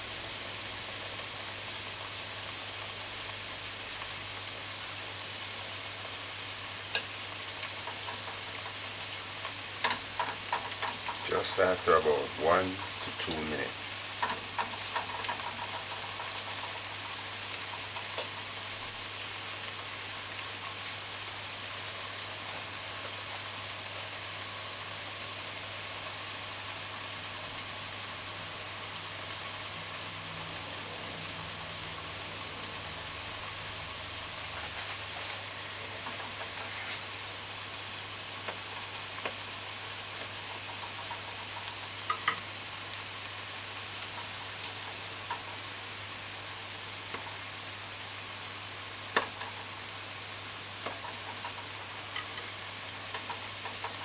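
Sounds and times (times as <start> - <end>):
plantain slices sizzling in oil: 0.0 - 54.0.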